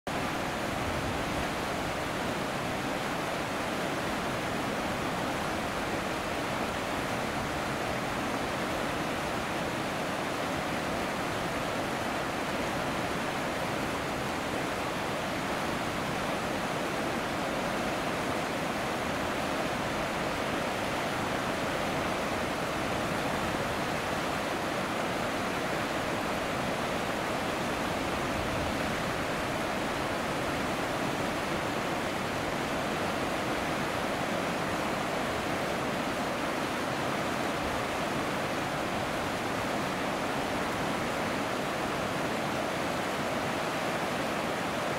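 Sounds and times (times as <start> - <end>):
waterfall rushing: 0.1 - 44.9.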